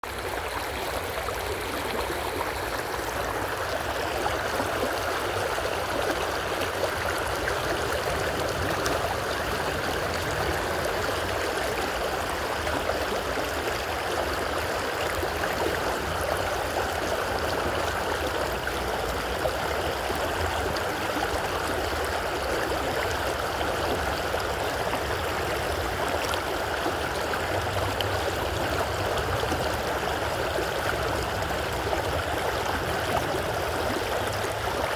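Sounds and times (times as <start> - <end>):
creek water running: 0.0 - 34.9.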